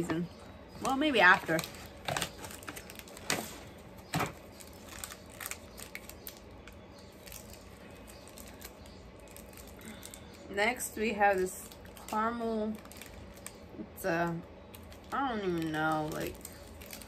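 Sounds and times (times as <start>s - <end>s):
plastic wrappers rustling: 0.8s - 17.0s.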